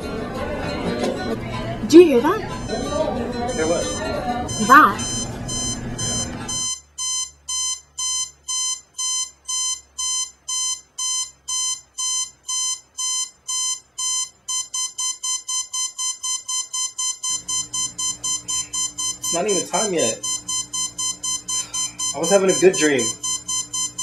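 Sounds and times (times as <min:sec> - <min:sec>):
alarm clock beeping: 0:02.0 - 0:24.0.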